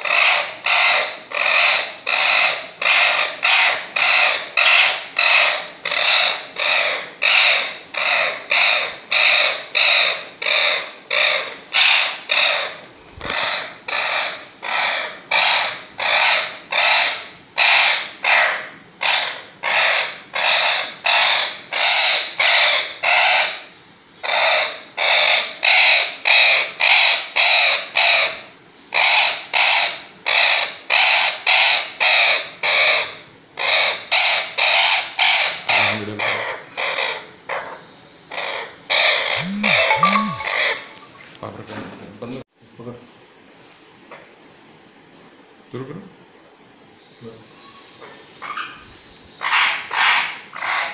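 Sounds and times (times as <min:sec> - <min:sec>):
parrot screeching harshly: 0:00.0 - 0:41.0, 0:49.4 - 0:50.9.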